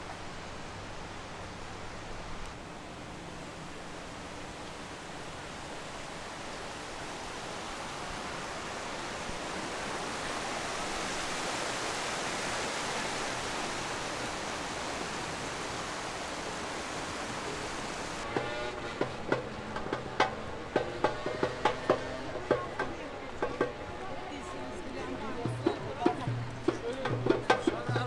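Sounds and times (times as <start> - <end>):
river water rushing: 0.0 - 27.9.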